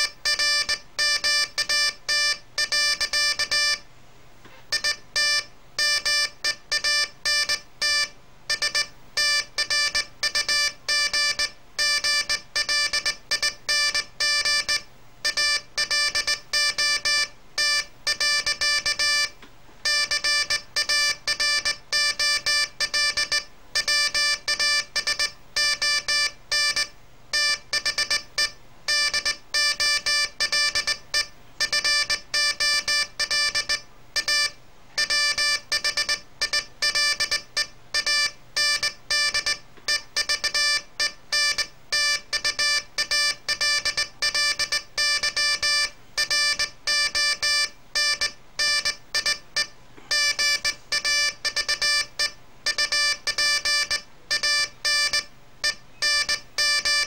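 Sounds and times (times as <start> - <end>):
morse code tone: 4.7 - 19.3, 19.9 - 57.0.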